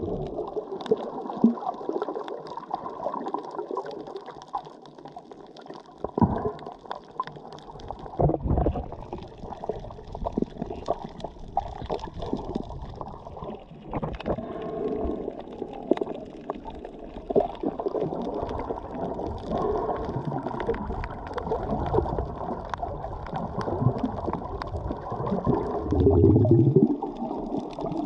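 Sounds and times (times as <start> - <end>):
small clicks underwater: 0.0 - 28.0
water sloshing and gurgling: 0.0 - 28.0.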